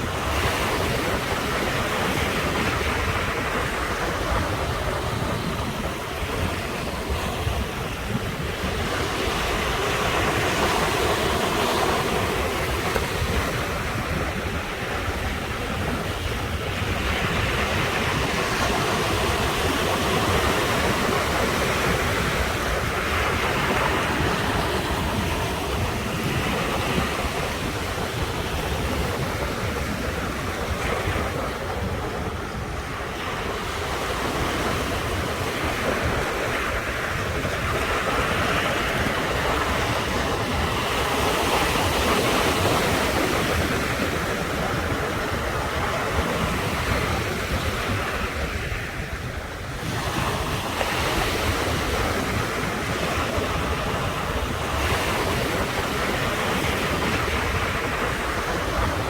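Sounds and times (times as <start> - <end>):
ocean surf washing ashore: 0.0 - 59.0
wind rumble on microphone: 0.0 - 59.0.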